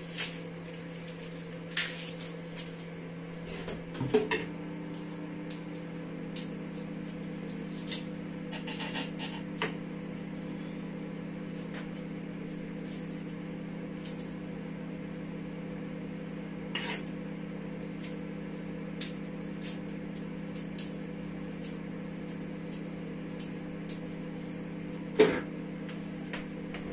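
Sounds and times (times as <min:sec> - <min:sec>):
electrical appliance hum: 0:00.0 - 0:26.9.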